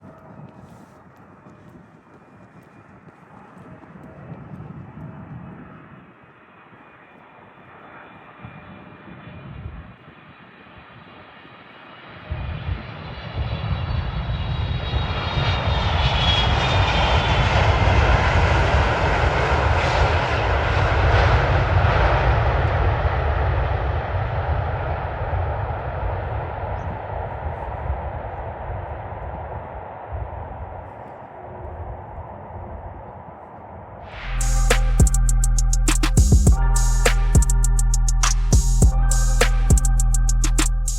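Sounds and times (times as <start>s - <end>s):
wind on microphone: 0.0s - 7.0s, 8.4s - 11.0s, 12.2s - 40.9s
high jet engine whine: 0.0s - 40.9s
jet airliner passing overhead: 0.0s - 40.9s.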